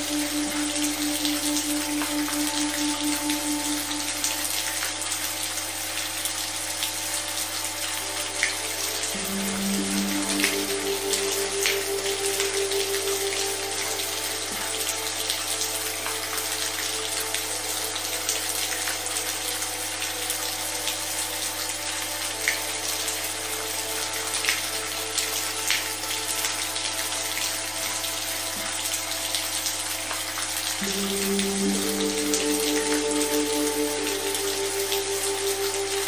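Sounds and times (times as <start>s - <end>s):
low sustained tone: 0.0s - 29.2s, 29.9s - 36.0s
rain hissing: 0.0s - 36.0s
soft held chord: 0.0s - 36.0s.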